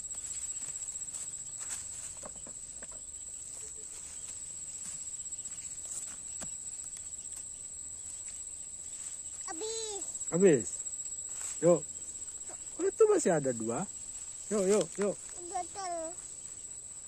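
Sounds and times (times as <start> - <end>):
dry leaves crackling underfoot: 0.0 - 2.5, 3.3 - 10.4, 11.0 - 16.3
insects chirring: 0.0 - 17.0.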